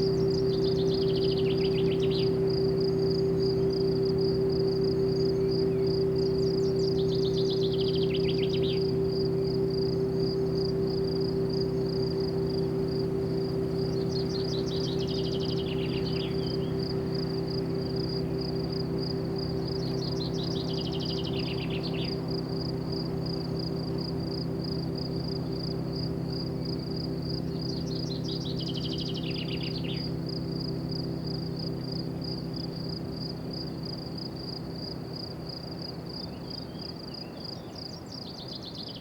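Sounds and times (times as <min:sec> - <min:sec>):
bird descending trill: 0:00.0 - 0:36.8
cricket chirping: 0:00.0 - 0:39.0
steady low hum: 0:00.0 - 0:39.0.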